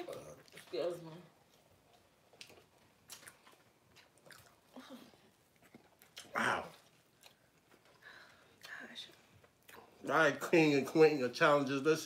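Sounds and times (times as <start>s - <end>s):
people chewing: 0.0s - 10.2s.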